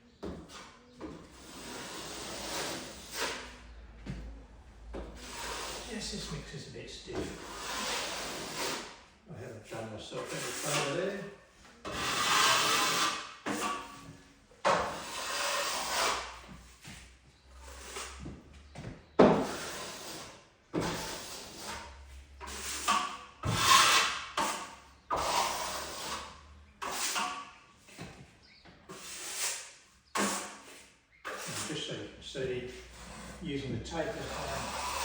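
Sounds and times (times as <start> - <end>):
trowel scraping plasterboard: 0.2 - 3.6, 5.1 - 6.5, 7.1 - 9.1, 10.2 - 18.4, 19.2 - 28.1, 28.9 - 35.0.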